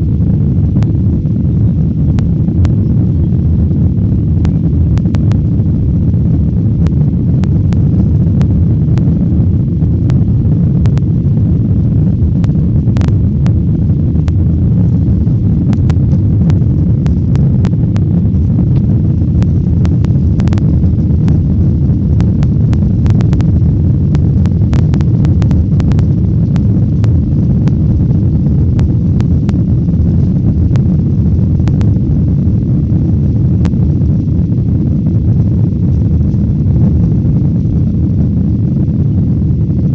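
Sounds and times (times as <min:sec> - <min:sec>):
engine and airflow drone: 0:00.0 - 0:39.9.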